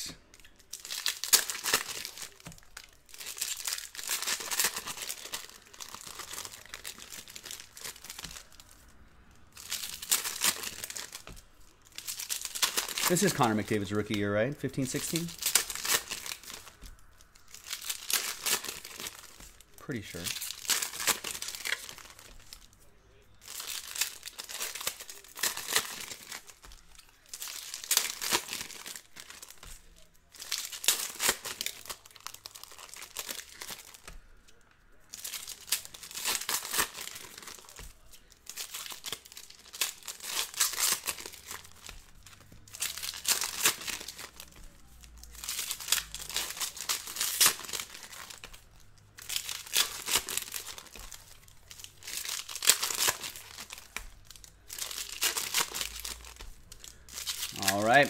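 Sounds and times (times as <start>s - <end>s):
foil wrappers crinkling and tearing: 0.0s - 58.0s.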